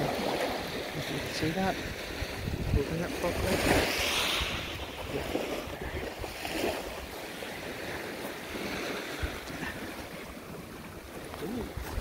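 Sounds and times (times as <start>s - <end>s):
surf on pebble beach: 0.0s - 12.0s
wind rumbling on microphone: 0.0s - 12.0s.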